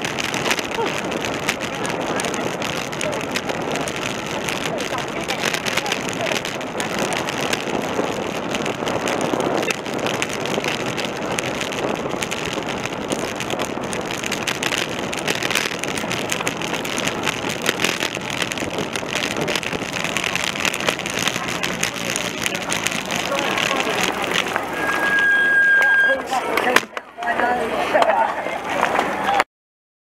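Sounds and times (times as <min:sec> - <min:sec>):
wind rushing: 0:00.0 - 0:25.8
bicycle tyre noise on tarmac: 0:00.0 - 0:29.4.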